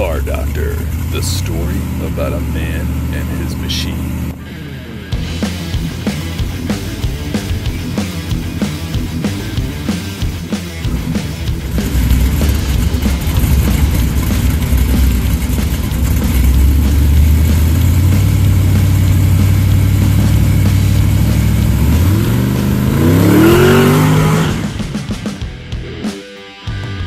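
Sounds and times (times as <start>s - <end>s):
vee eight engine idling and revving: 0.0s - 26.0s.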